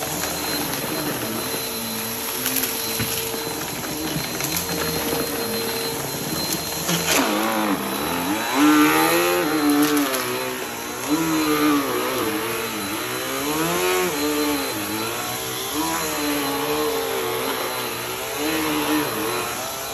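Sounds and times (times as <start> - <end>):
vacuum cleaner on carpet: 0.0 - 19.9.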